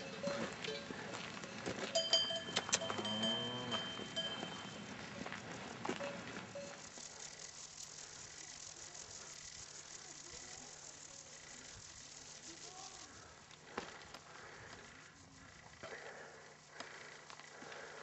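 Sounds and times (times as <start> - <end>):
steady hiss: 1.9 - 18.0.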